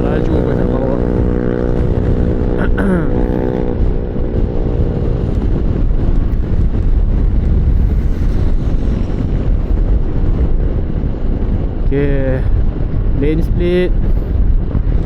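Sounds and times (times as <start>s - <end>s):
motorcycle engine hum: 0.0s - 15.0s
wind and road noise on microphone: 0.0s - 15.0s.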